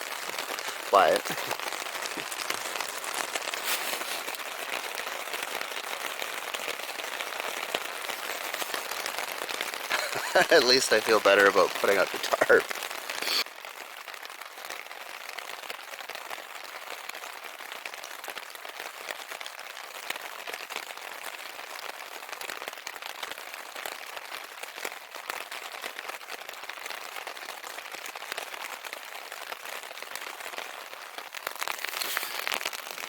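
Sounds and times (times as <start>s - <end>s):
rain pattering on a tarp: 0.0s - 33.0s.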